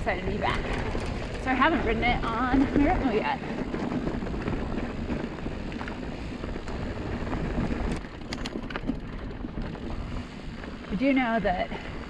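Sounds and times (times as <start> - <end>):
sharp clicks and rattles: 0.0 - 11.9
bike tyres on dirt and stones: 0.0 - 12.0
wind buffeting the microphone: 0.0 - 12.0.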